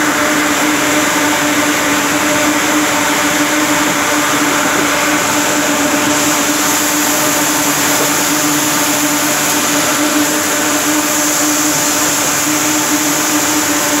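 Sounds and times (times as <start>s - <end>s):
constant machine hum: 0.0s - 14.0s
spinning machines whirring and hissing: 0.1s - 14.0s.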